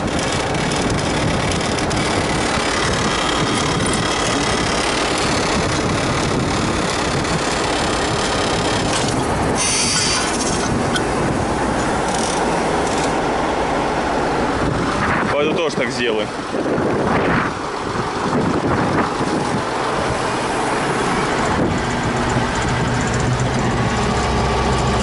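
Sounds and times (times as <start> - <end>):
tractor rumbling and rattling: 0.0 - 25.0.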